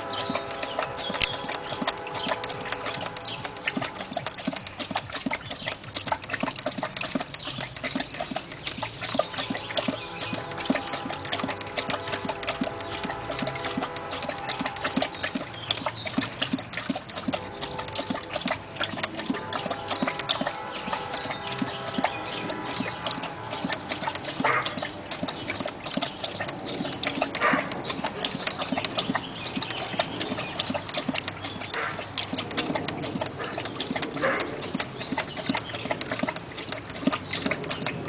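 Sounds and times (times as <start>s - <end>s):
dog lapping water: 0.0s - 38.0s.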